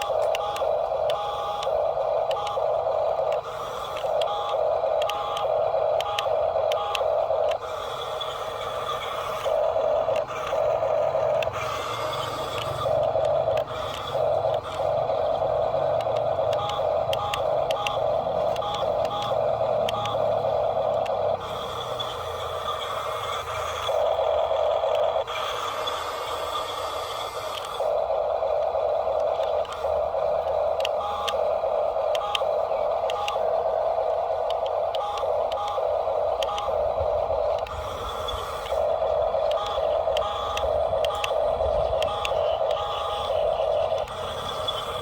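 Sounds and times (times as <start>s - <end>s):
clicks: 0.0s - 45.0s
toy truck motors whining: 0.0s - 45.0s.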